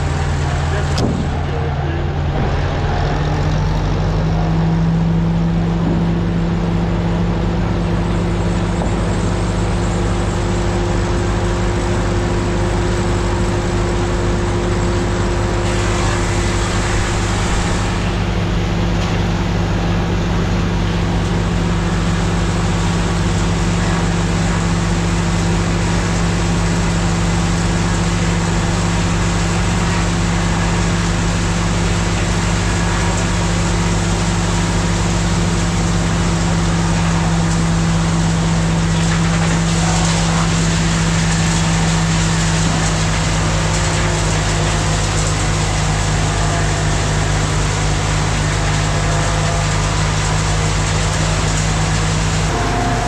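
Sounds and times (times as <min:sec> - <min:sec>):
machinery humming: 0:00.0 - 0:53.0.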